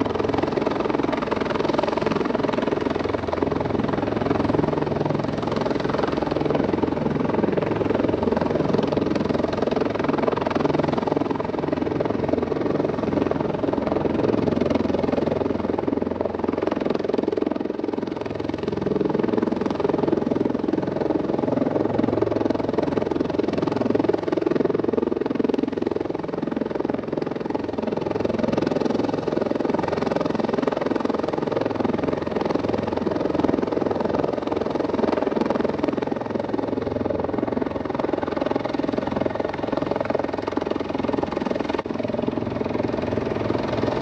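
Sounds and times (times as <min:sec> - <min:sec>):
helicopter rotor and turbine: 0:00.0 - 0:44.0.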